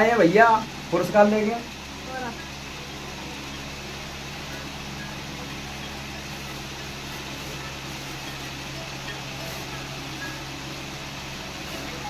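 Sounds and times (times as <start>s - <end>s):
motor humming with hiss: 0.0s - 12.0s.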